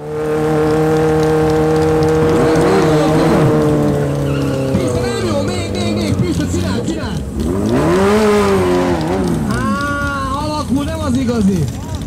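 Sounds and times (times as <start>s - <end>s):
motorcycle engine at high revs: 0.0s - 12.0s
tyre squealing on asphalt: 0.0s - 12.0s.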